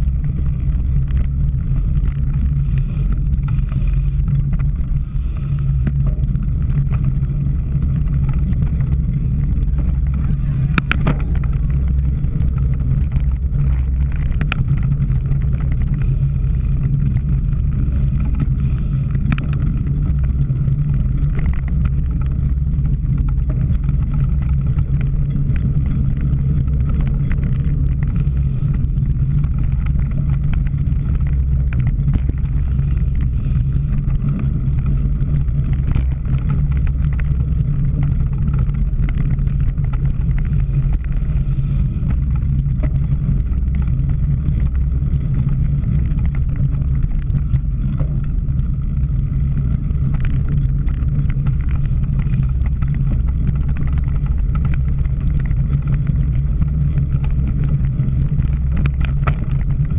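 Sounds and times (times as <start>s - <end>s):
bike knocks and rattles: 0.0s - 59.9s
wind and riding noise: 0.0s - 59.9s.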